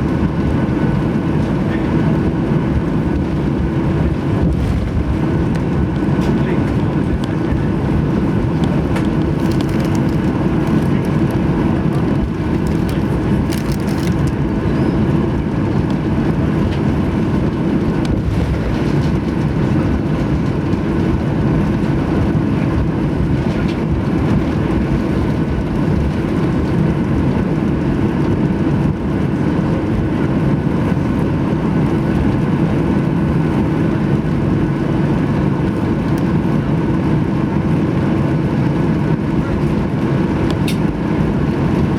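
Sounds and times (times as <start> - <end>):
airplane cabin engine roar: 0.0 - 41.9.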